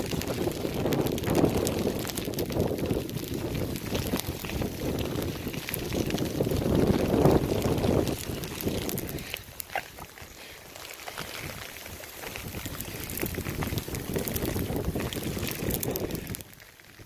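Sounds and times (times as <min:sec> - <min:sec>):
dog paws crunching in snow: 0:00.0 - 0:16.8
wind rumbling on microphone: 0:00.0 - 0:17.0.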